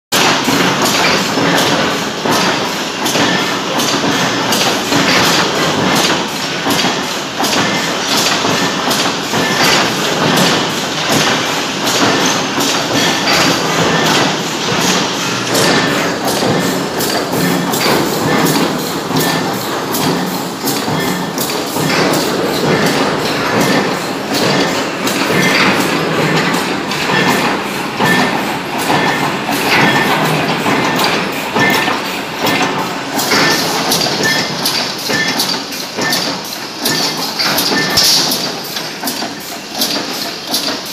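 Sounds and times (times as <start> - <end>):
machine thuds and knocks: 0.2 - 40.8
industrial machinery din: 0.2 - 40.9.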